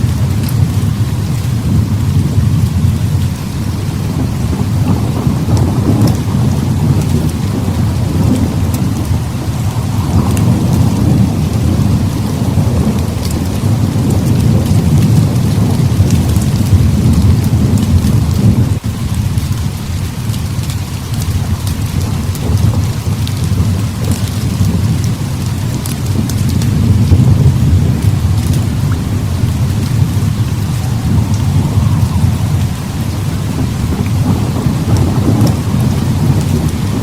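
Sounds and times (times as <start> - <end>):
heavy rain falling: 0.0 - 37.0
rolling thunder: 0.0 - 37.0
sharp ticks of raindrops: 0.0 - 37.0.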